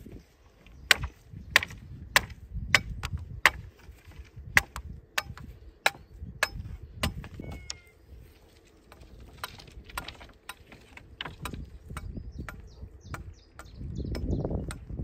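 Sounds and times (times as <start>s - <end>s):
hand tool striking wood: 0.9s - 7.4s, 8.9s - 14.9s.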